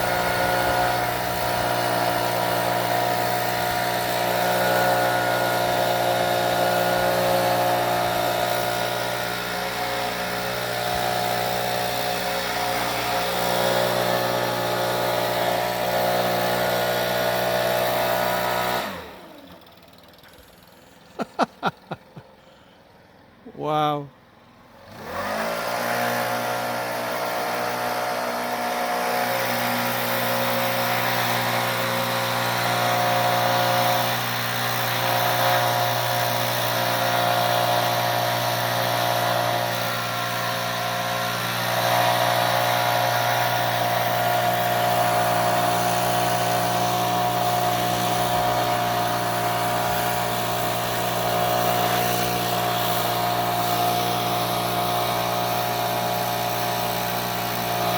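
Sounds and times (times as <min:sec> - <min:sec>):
engine spinning up and running: 0:00.0 - 0:23.4, 0:24.5 - 0:57.9.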